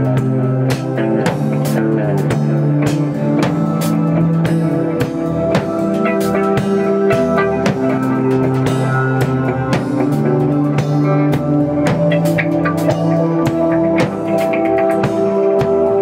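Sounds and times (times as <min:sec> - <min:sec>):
bass notes: 0:00.0 - 0:16.0
drum kit: 0:00.0 - 0:16.0
electric guitar: 0:00.0 - 0:16.0.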